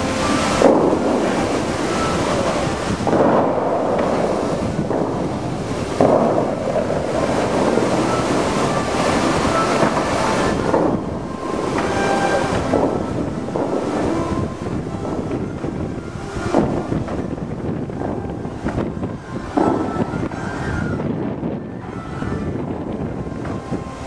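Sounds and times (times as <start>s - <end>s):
fountain jets rushing: 0.0s - 24.0s
water splashing into lake: 0.0s - 24.0s.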